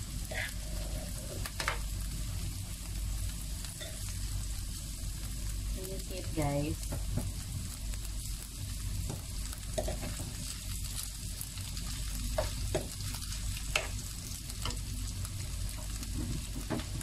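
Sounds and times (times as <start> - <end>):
chicken and onion sizzling in pan: 0.0 - 17.0.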